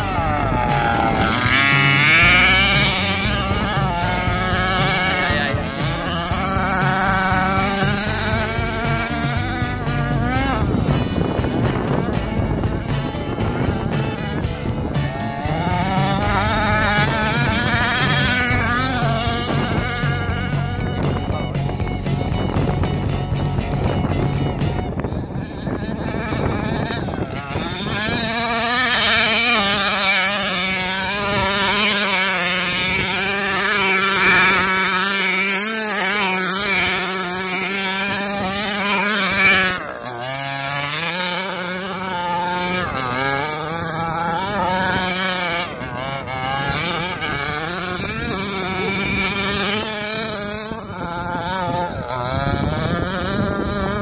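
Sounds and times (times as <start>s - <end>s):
small two-stroke engine revving: 0.0s - 54.0s.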